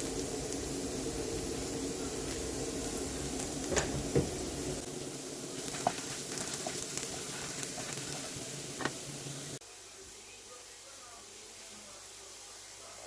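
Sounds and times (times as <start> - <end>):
stir-fry sizzling in a pan: 0.0 - 13.0.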